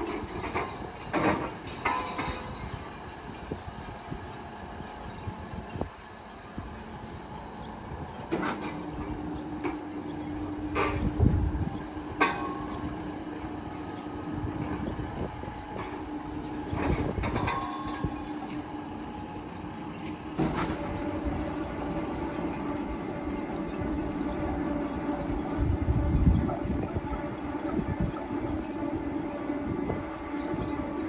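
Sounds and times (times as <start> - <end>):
machine humming: 0.0 - 31.0.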